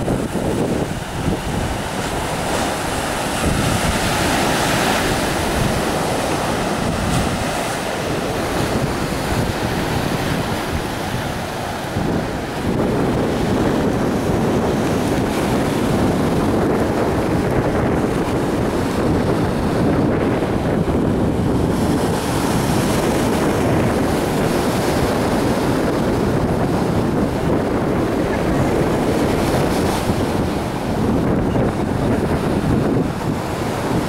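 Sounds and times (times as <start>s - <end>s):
surf washing against rocks: 0.0s - 34.0s
wind buffeting microphone: 0.0s - 34.0s.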